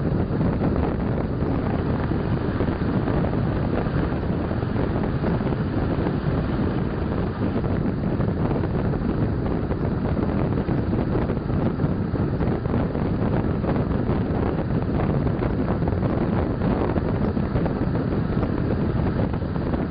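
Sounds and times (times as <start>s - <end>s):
wind rushing across microphone: 0.0s - 19.9s.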